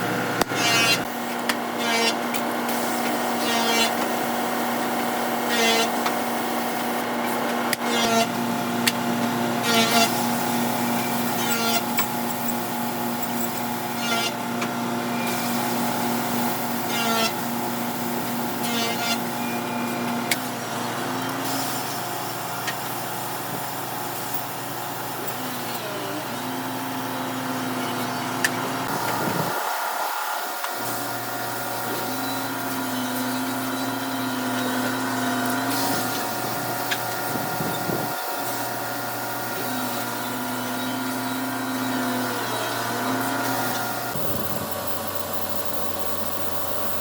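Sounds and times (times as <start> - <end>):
woodworking machinery humming: 0.0 - 47.0.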